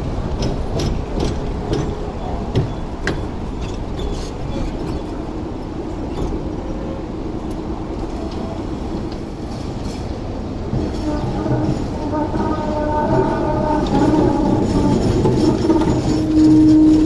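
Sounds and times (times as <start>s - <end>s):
tram rumbling: 0.0s - 17.0s.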